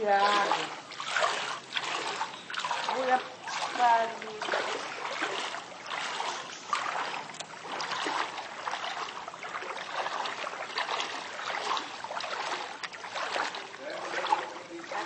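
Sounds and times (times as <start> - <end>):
feet splashing through water: 0.0 - 15.0.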